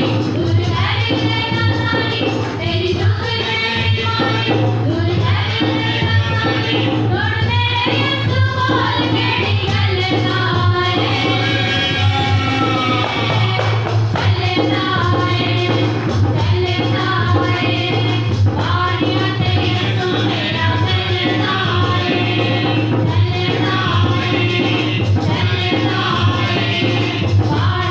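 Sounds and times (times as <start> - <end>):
instrumental backing with steady beat: 0.0 - 27.9
voices singing worship song: 0.0 - 27.9.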